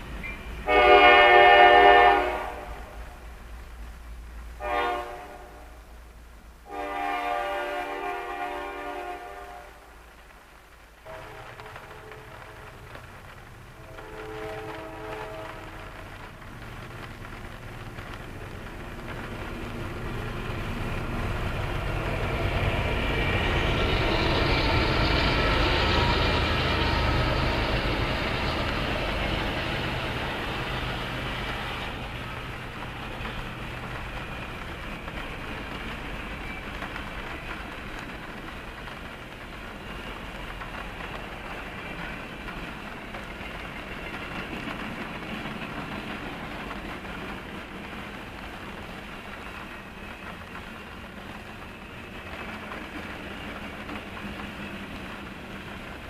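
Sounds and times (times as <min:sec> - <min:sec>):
diesel locomotives passing: 0:00.0 - 0:56.0
freight cars rumbling on rails: 0:00.0 - 0:56.0.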